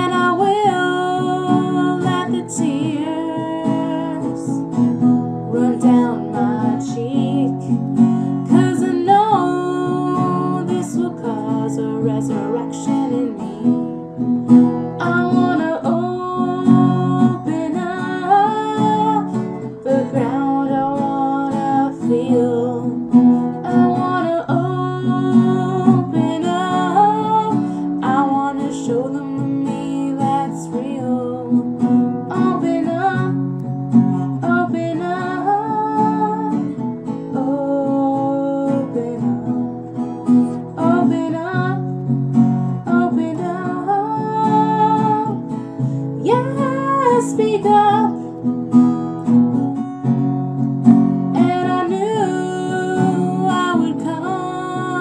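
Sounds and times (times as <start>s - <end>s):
person singing: 0.0s - 4.7s, 5.4s - 14.0s, 15.0s - 39.8s, 40.4s - 48.2s, 51.3s - 55.0s
strummed acoustic guitar: 0.0s - 55.0s.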